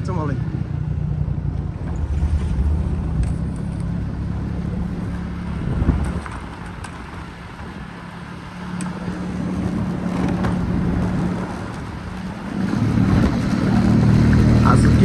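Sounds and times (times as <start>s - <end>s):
road and wind noise: 0.0s - 15.0s
scooter engine running: 0.0s - 15.0s.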